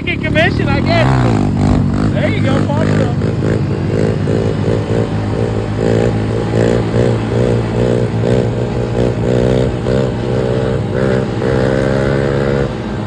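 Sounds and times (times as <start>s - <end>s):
pit bike engine revving: 0.0s - 13.0s.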